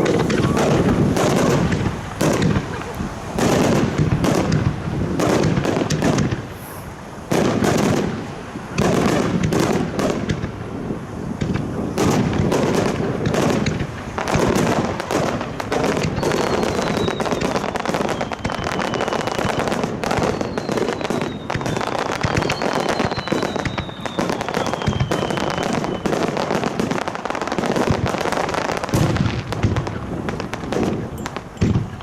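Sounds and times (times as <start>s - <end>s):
falling firework whistle: 0.0s - 10.5s, 11.4s - 32.0s
fireworks booming and crackling: 0.0s - 32.0s.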